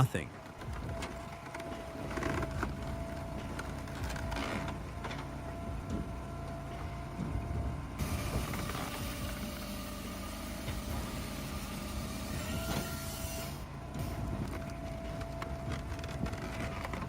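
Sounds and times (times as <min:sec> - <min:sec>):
firewood processor engine running: 0:00.0 - 0:17.0.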